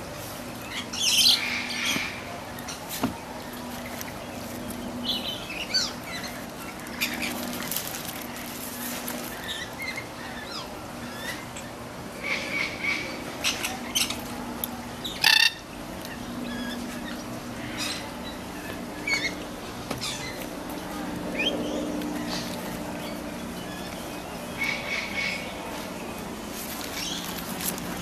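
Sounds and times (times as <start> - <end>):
birds chirping and calling: 0.2 - 28.0.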